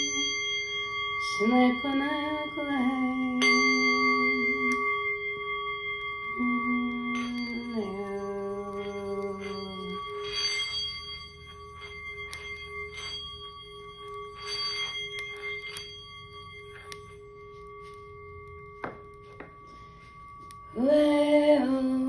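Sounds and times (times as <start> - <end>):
singing bowl ringing: 0.0 - 22.0.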